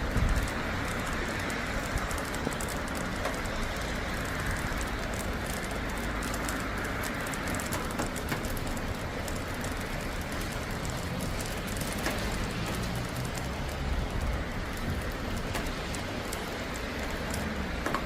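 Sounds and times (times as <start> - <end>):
rain falling: 0.0 - 18.0
raindrop ticks: 0.0 - 18.0.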